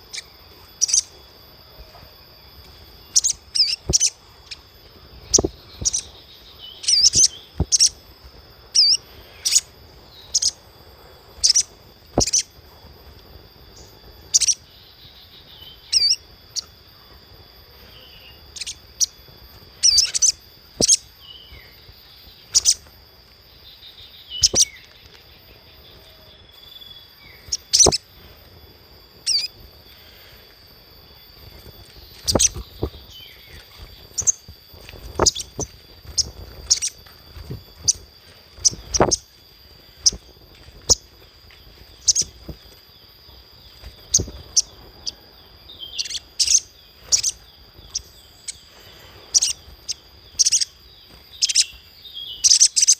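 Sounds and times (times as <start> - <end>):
bird chirping: 0.0 - 13.0, 13.6 - 16.8, 17.7 - 28.3, 29.1 - 30.4, 31.1 - 52.9
faint high-pitched hum: 0.0 - 52.9.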